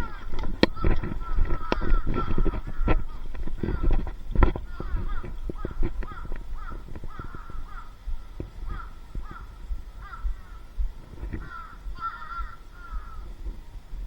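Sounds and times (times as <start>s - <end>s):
harsh crow-like bird calls: 0.0s - 13.5s
low thuds: 0.0s - 14.0s.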